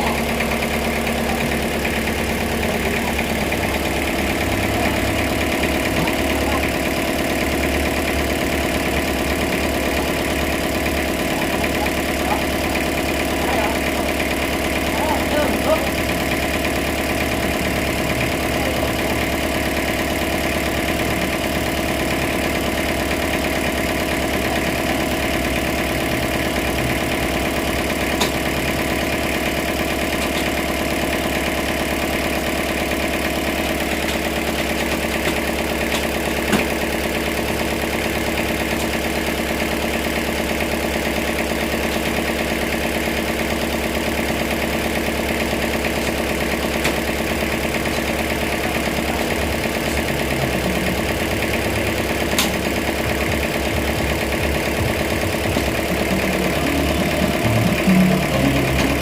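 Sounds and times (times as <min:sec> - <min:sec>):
sawmill engine running: 0:00.0 - 0:59.0.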